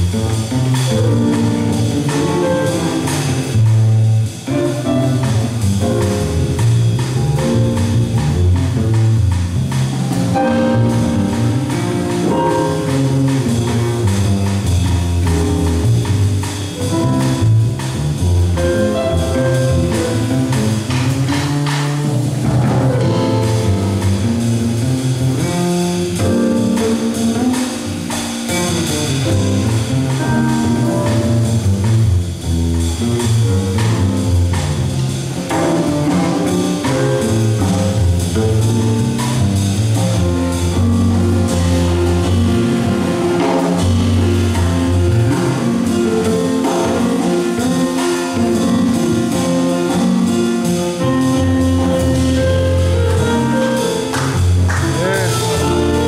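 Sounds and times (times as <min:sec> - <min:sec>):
drum kit cymbals: 0:00.0 - 0:56.0
jazz piano trio playing: 0:00.0 - 0:56.0
plucked double bass: 0:00.0 - 0:56.0.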